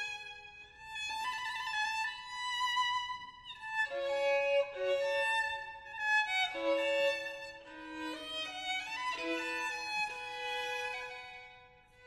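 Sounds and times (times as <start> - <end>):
violin playing slow notes: 0.0 - 12.0.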